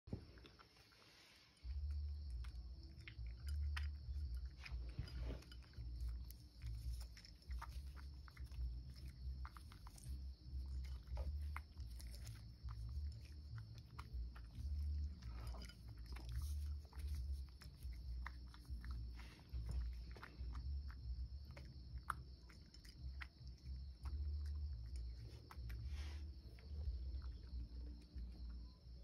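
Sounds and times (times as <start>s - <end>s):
cat crunching dry kibble: 1.7s - 25.8s.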